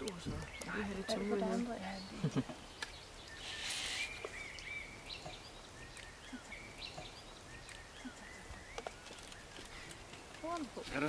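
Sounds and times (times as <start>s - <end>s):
outdoor background hiss: 0.0s - 11.0s
small birds chirping: 0.0s - 11.0s.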